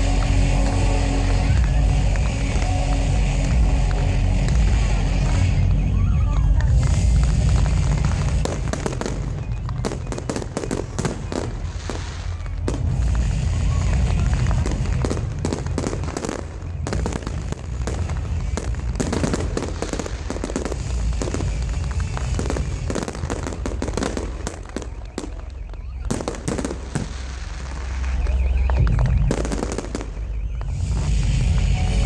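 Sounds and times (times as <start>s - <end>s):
fireworks crackling and banging: 0.0s - 32.0s
low rumble: 0.0s - 32.0s.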